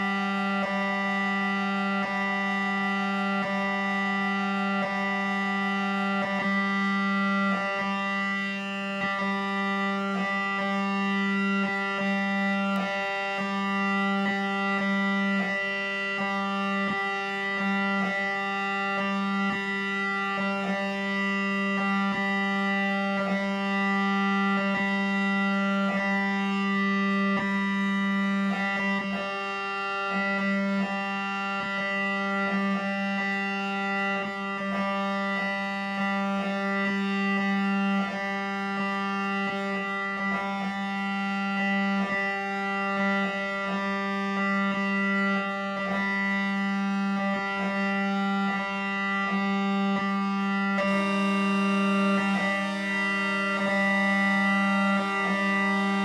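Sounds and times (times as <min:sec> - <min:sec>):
electronic drone music: 0:00.0 - 0:56.0.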